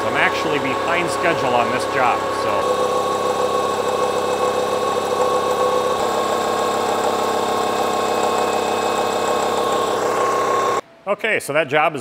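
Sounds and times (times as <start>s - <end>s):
milling machine cutting steel: 0.0s - 10.8s.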